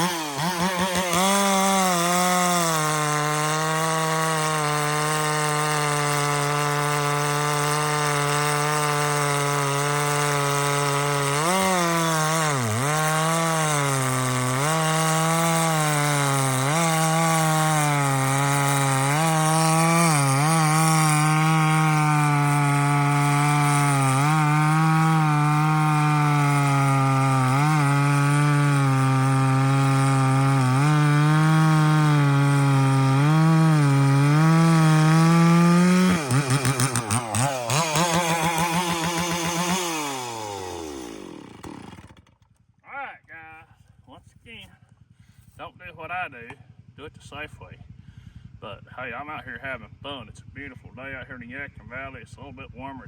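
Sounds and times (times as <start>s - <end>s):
chainsaw cutting at full throttle: 0.0s - 42.6s.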